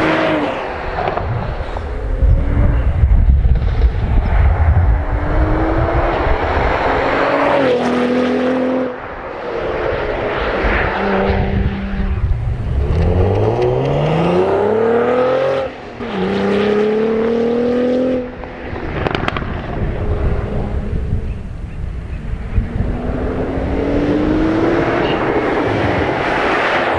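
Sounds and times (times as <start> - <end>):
car engine accelerating hard: 0.0 - 26.9.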